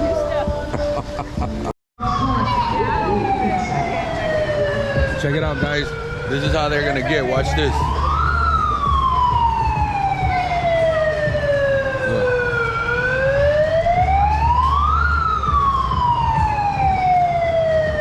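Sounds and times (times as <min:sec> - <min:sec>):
siren wailing: 0:02.0 - 0:18.0.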